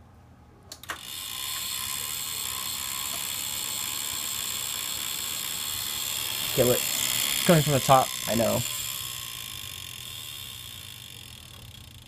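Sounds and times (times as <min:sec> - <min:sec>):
computer fans whirring: 0:00.7 - 0:12.0.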